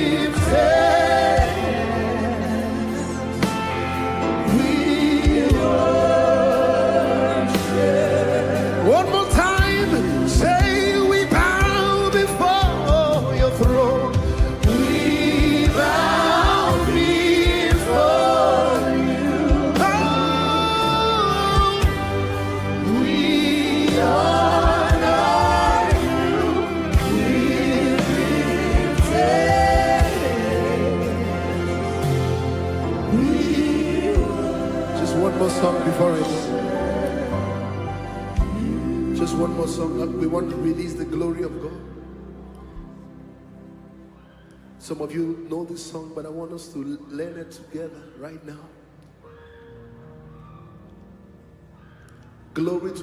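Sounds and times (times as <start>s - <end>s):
choir singing gospel music: 0.0s - 47.6s.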